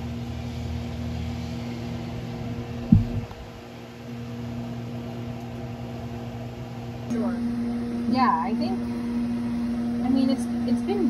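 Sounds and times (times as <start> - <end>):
gas burner humming: 0.0 - 11.0.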